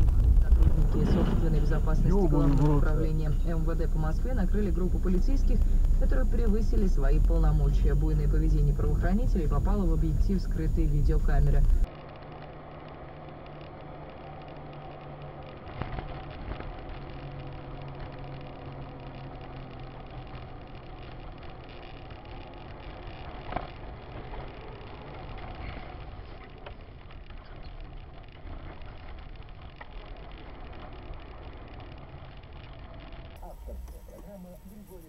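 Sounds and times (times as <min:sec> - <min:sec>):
car engine and tyre hum: 0:00.0 - 0:35.0.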